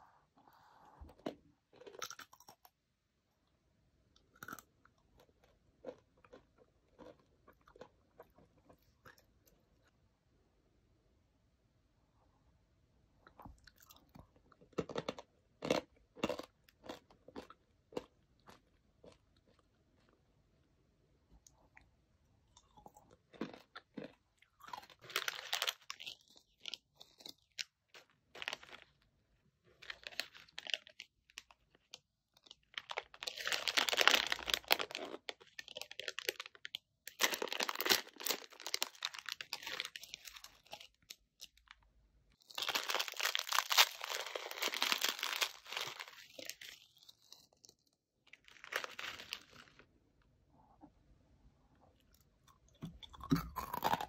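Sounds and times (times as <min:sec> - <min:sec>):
crunching and crinkling snack: 0:00.6 - 0:02.8, 0:04.1 - 0:10.0, 0:13.2 - 0:20.2, 0:21.4 - 0:50.0, 0:52.0 - 0:54.0.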